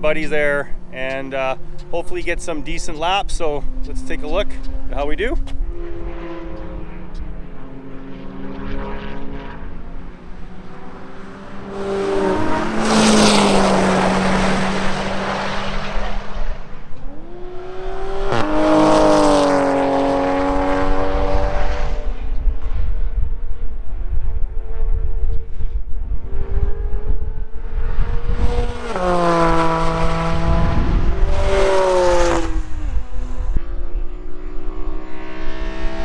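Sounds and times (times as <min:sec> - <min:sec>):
race car engines running: 0:00.0 - 0:36.0.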